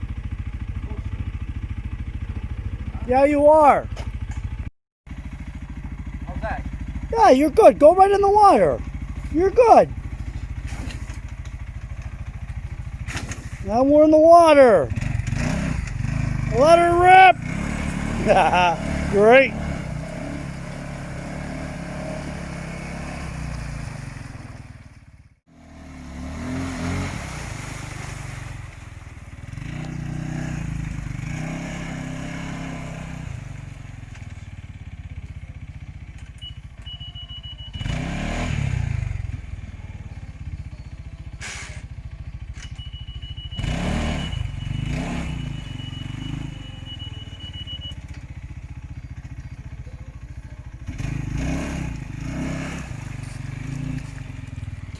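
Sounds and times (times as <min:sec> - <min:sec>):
utility vehicle engine revving: 0:00.0 - 0:54.9.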